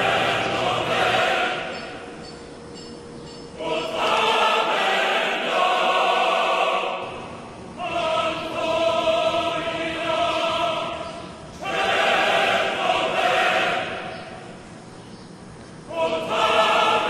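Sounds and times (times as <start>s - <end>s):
choir holding long chords: 0.0s - 14.7s, 15.8s - 17.0s.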